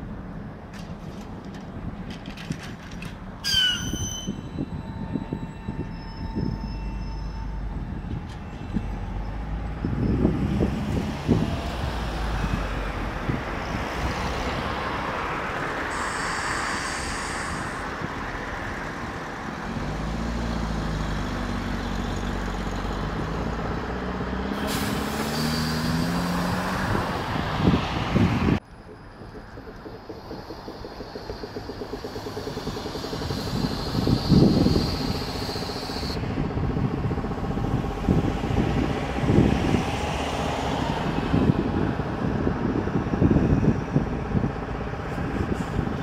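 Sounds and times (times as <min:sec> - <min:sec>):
road noise: 0:00.0 - 0:46.0.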